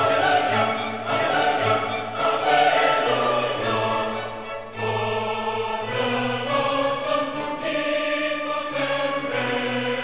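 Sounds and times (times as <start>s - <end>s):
choir singing sustained chords: 0.0s - 10.0s.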